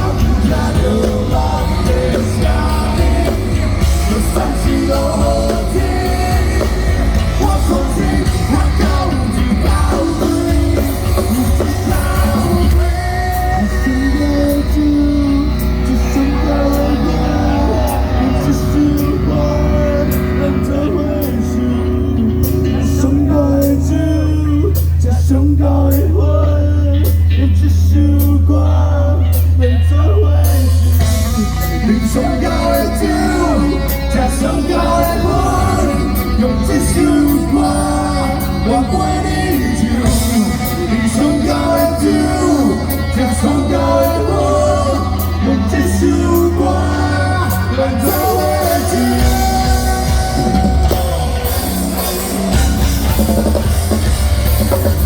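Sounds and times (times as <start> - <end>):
person singing: 0.0 - 54.0
heavy bass: 0.0 - 55.0
live rock band: 0.0 - 55.0.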